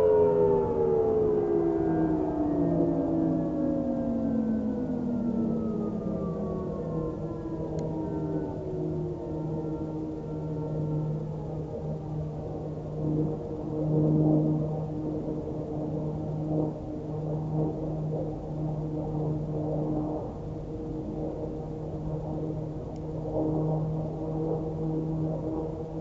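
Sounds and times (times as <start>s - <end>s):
distant rotating warning sirens: 0.0s - 26.0s.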